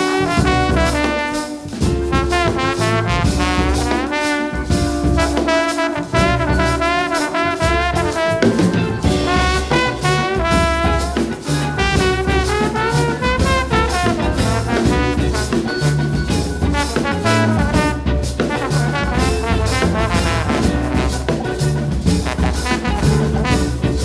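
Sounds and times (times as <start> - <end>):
brass band playing swing tune: 0.0 - 24.0
drum kit: 0.0 - 24.0.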